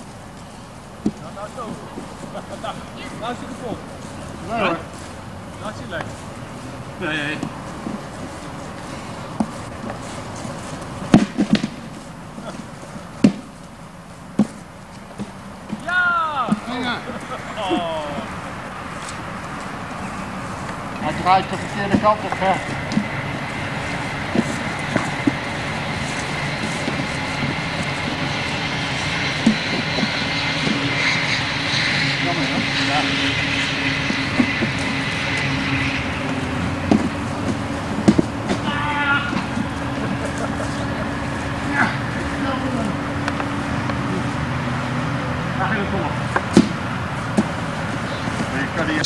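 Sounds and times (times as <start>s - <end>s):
background rumble: 0.0s - 49.0s.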